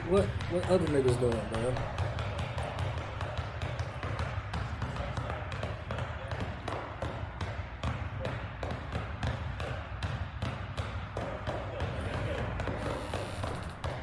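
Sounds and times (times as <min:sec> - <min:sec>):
basketballs bouncing on hardwood: 0:00.0 - 0:14.0.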